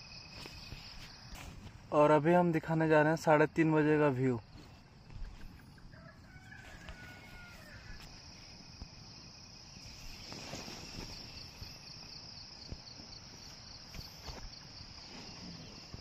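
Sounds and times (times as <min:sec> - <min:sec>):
insects trilling: 0:00.0 - 0:16.0
pulsing insect call: 0:00.0 - 0:16.0.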